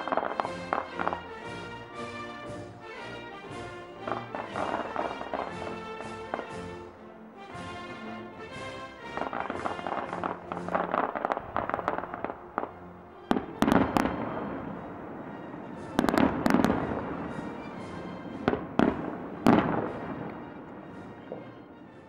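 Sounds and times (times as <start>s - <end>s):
fireworks crackling pops: 0.0s - 6.9s, 7.6s - 14.6s, 15.7s - 22.0s.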